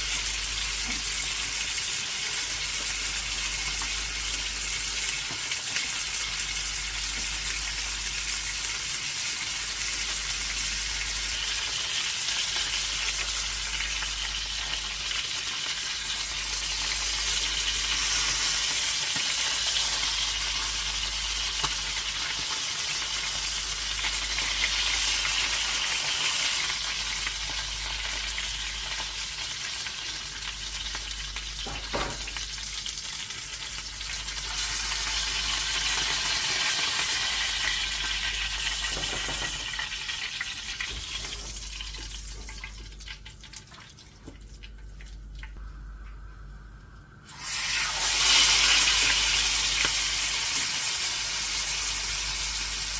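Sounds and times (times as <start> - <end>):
chicken sizzling in a pan: 0.0 - 43.4, 45.4 - 52.9.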